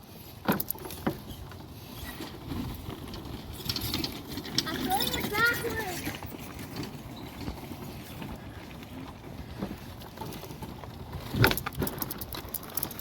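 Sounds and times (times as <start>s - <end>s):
go-kart rumbling and rattling: 0.0s - 13.0s.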